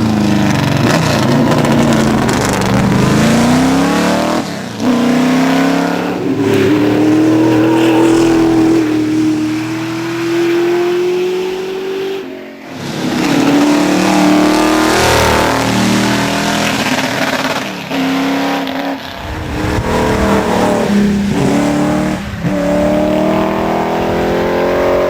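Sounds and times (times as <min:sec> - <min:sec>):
race car accelerating through gears: 0:00.0 - 0:25.0.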